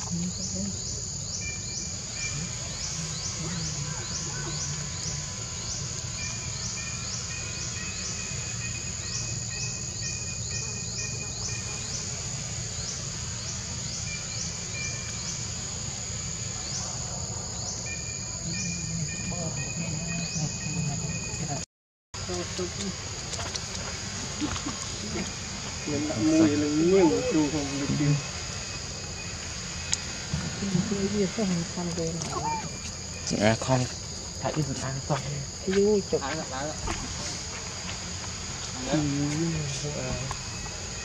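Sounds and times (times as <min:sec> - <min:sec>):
insects buzzing: 0:00.0 - 0:41.0.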